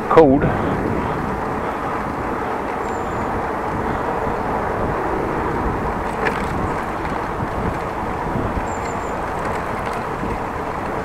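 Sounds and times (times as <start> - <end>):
bicycle tyres rolling: 0.0 - 11.0
wind on microphone: 0.0 - 11.0.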